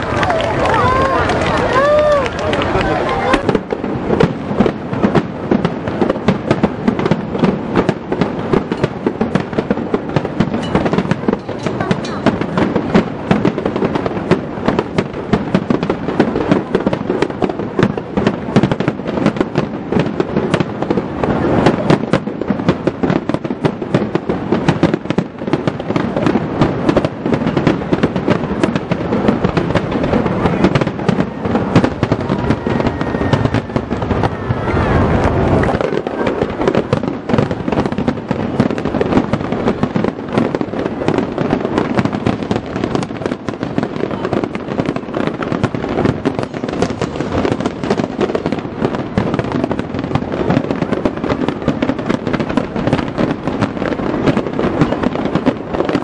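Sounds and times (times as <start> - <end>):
firework shells bursting: 0.0 - 56.0.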